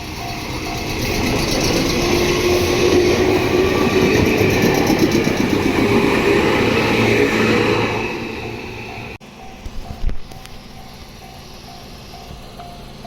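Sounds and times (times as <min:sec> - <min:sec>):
train wheels rushing on rail: 0:00.0 - 0:13.0.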